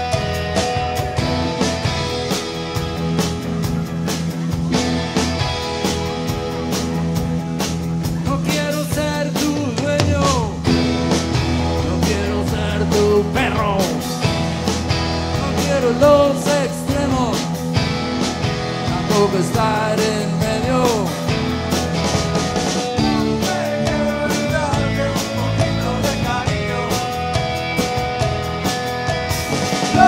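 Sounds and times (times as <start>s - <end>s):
electric guitar lead: 0.0s - 8.3s, 10.6s - 25.4s, 27.1s - 30.0s
bass guitar: 0.0s - 30.0s.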